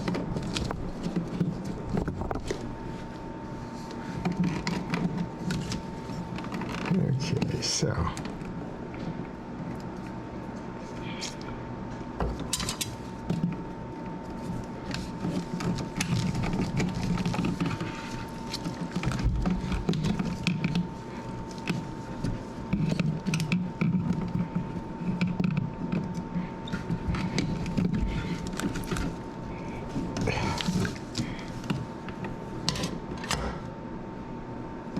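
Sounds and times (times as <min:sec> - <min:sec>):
clicks and scraping of wiring: 0:00.0 - 0:03.2, 0:03.8 - 0:11.5, 0:14.4 - 0:33.4.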